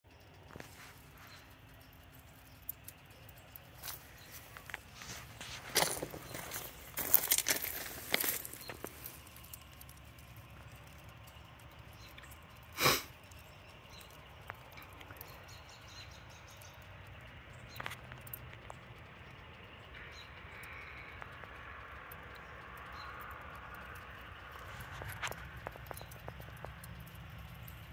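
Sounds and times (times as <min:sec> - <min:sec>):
charcoal crackling: 0:00.2 - 0:27.9.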